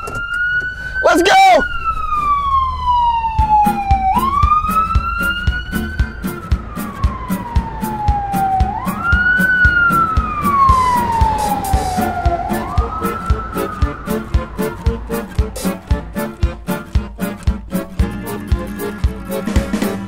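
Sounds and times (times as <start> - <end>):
ambulance siren wailing: 0.0 - 20.0
steady beat: 3.2 - 20.0.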